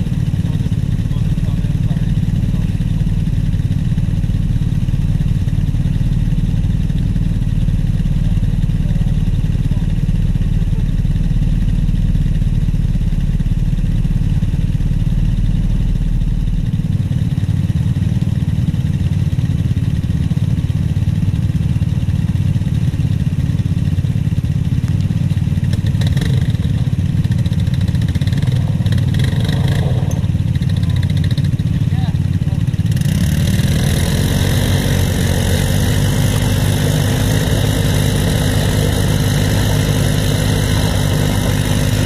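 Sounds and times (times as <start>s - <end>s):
vehicle engine idling: 0.0s - 42.0s.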